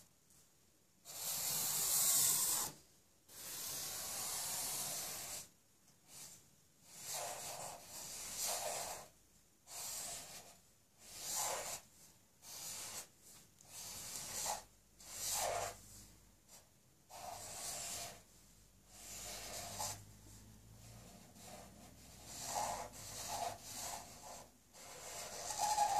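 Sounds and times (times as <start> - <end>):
marker scratching on paper: 1.0 - 25.9.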